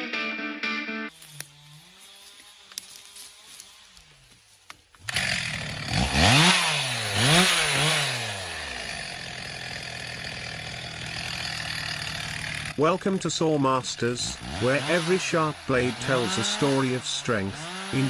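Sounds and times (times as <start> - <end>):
chainsaw engine revving: 1.1 - 4.2, 5.0 - 18.0.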